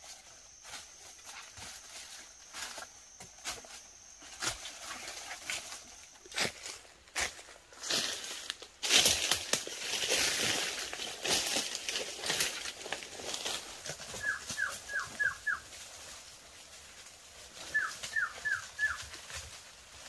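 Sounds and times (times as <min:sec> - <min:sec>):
footsteps in dry leaves: 0:00.0 - 0:20.0.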